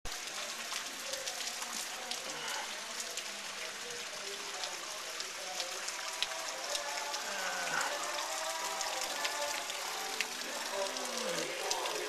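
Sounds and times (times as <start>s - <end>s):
heavy rain with drop ticks: 0.0s - 12.0s.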